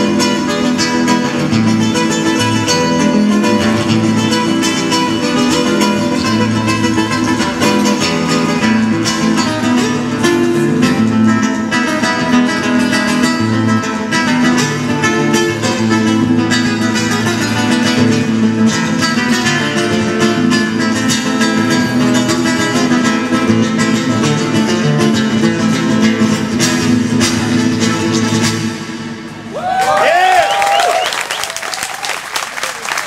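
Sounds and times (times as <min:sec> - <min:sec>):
acoustic guitar flamenco music: 0:00.0 - 0:29.5.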